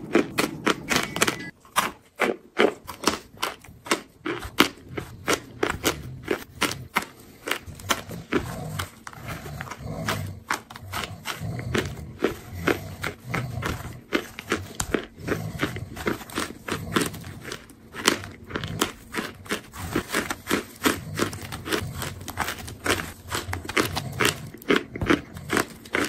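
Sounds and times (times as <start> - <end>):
chewing crunchy chunks: 0.0 - 26.0.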